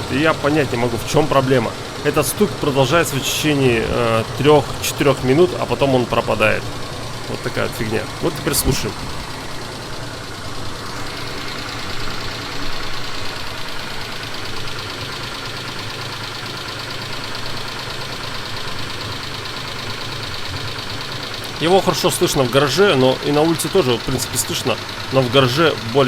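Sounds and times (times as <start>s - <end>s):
engine idling with rapid knock: 0.0s - 26.0s.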